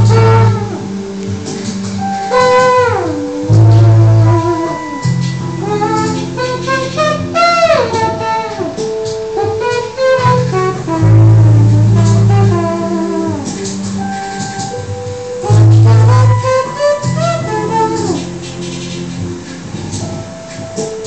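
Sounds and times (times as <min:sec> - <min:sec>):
long held bass notes: 0:00.0 - 0:20.4
sax-like electronic lead melody: 0:00.0 - 0:21.0.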